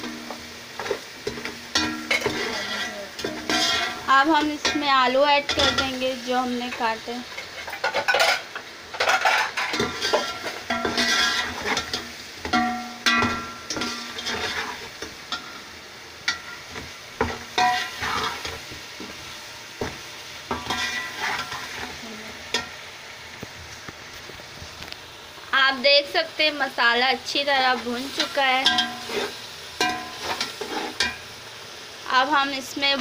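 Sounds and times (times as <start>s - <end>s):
frying sizzle: 0.0s - 33.0s.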